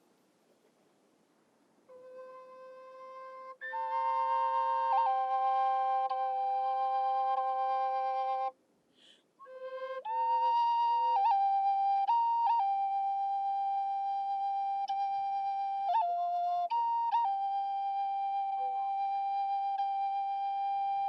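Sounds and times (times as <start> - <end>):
flute playing slow notes: 1.9 - 8.6, 9.4 - 21.0.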